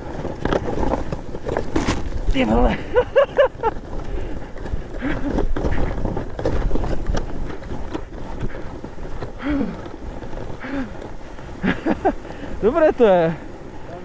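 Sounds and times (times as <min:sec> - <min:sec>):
sled rushing through snow: 0:00.0 - 0:14.0
wind buffeting microphone: 0:00.0 - 0:14.0.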